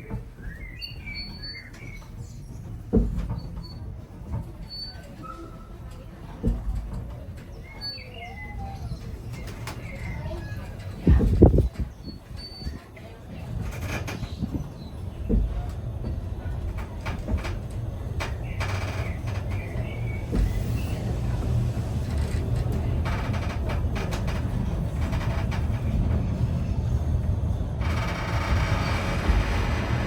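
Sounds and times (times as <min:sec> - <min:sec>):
train carriage rumbling: 0:00.0 - 0:30.0
knocks and clanks: 0:01.8 - 0:04.8, 0:05.9 - 0:07.6, 0:09.0 - 0:12.8, 0:13.4 - 0:30.0.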